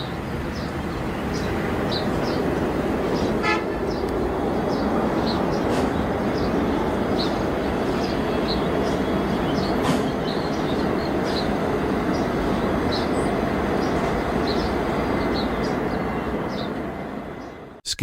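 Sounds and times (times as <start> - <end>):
jet airliner rumble: 0.0 - 17.6.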